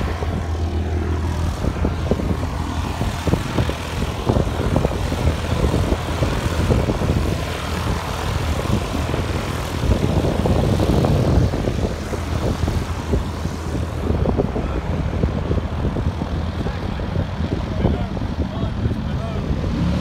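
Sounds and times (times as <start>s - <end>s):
propeller aircraft engine running: 0.0s - 20.0s.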